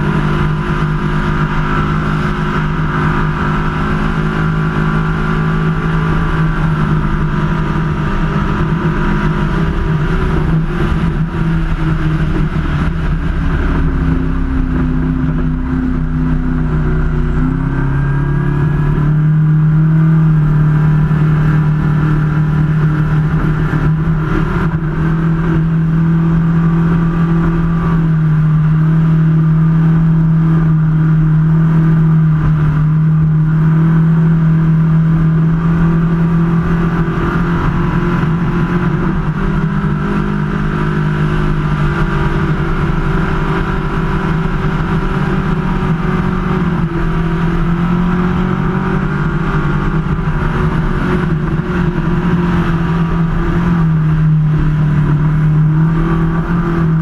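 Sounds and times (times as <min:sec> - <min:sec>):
boat engine loud drone: 0:00.0 - 0:57.0.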